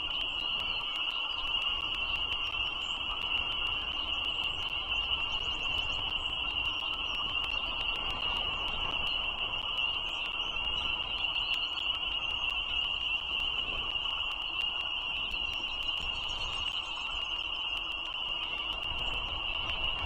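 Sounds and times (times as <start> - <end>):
faint clicks: 0.0 - 20.0
frog chorus trilling: 0.0 - 20.0.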